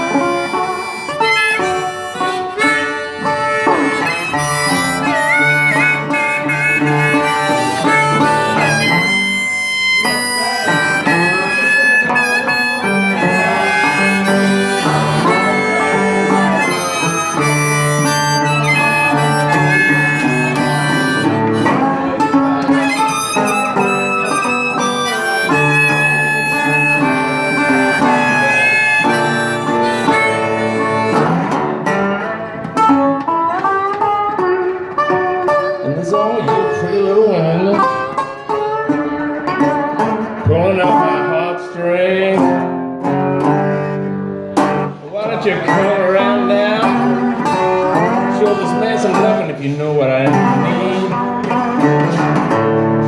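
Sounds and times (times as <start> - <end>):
blues lead guitar bending notes: 0.0 - 53.0.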